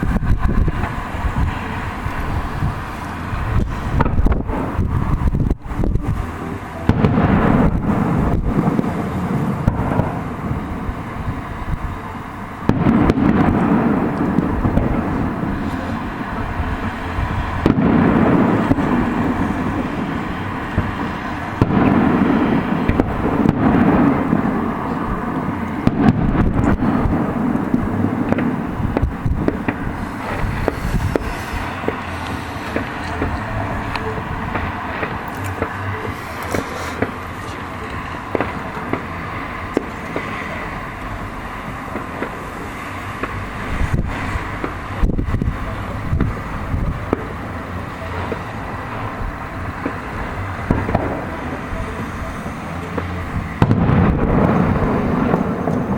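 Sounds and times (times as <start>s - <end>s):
dense wash of firework bursts: 0.0s - 55.9s
fireworks bangs: 0.0s - 55.9s
outdoor rumble: 0.0s - 55.9s.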